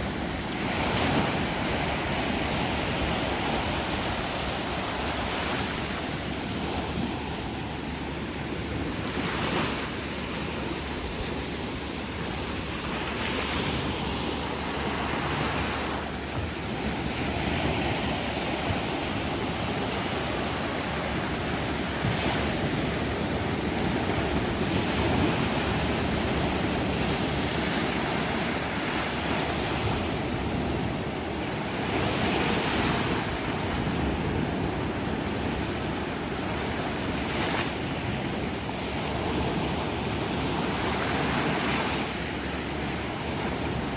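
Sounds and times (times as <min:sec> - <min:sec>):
sea waves washing on shore: 0:00.0 - 0:43.9
wind on microphone: 0:00.0 - 0:43.9.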